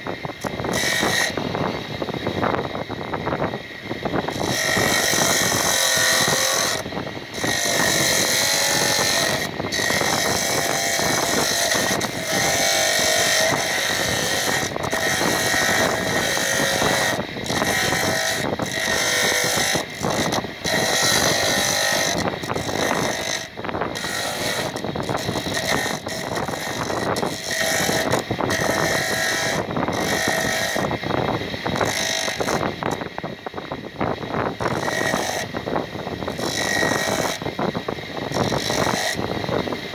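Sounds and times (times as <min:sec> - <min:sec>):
circular saw cutting rock salt: 0:00.0 - 0:02.4, 0:03.0 - 0:33.2, 0:33.9 - 0:39.9.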